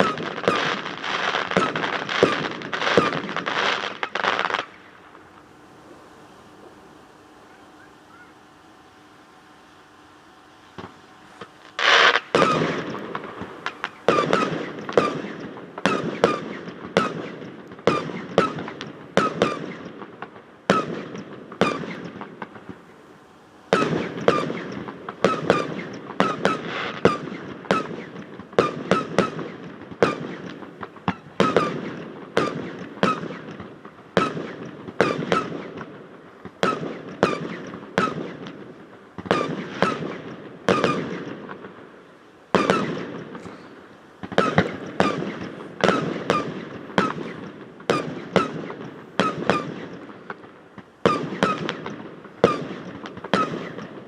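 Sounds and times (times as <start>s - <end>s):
fireworks bangs echoing: 0.0s - 54.0s.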